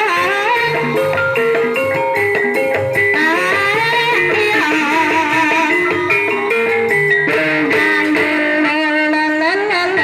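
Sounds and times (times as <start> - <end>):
live traditional ensemble music: 0.0 - 10.0.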